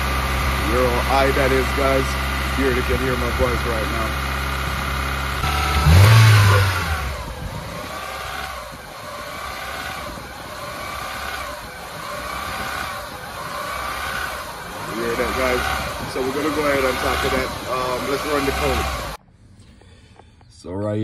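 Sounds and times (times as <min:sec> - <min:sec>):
car engine idling unevenly: 0:00.0 - 0:20.5.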